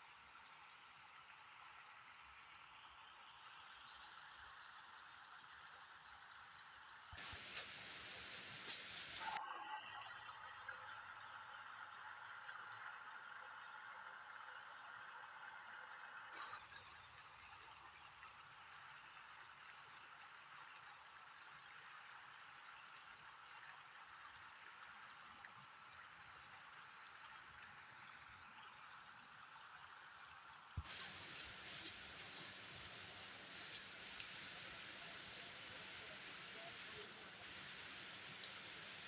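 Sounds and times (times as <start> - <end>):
running water like rain: 0.0 - 39.0.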